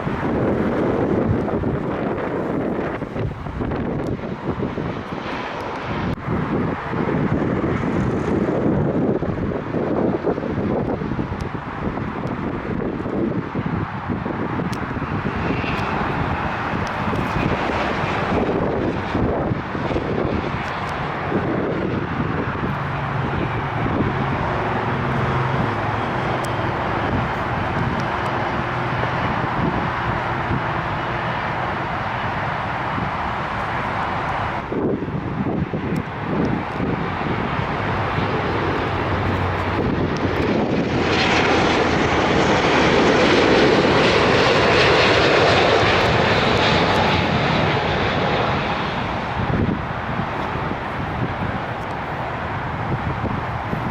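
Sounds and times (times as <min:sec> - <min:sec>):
jet airliner noise: 0:00.0 - 0:53.9
wind buffeting microphone: 0:00.0 - 0:53.9.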